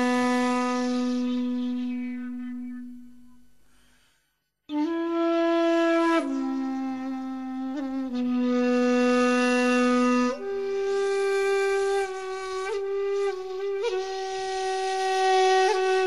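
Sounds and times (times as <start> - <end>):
solo flute: 0.0 - 3.4, 4.7 - 16.0.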